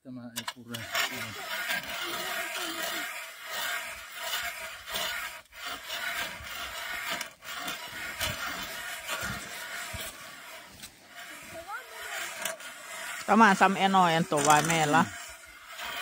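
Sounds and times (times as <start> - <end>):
ice auger scraping ice: 0.3 - 16.0.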